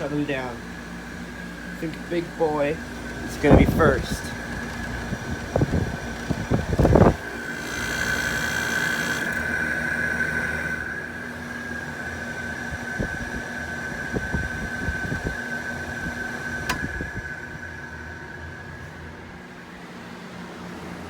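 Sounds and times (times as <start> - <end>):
air conditioner hum and whine: 0.0 - 21.0.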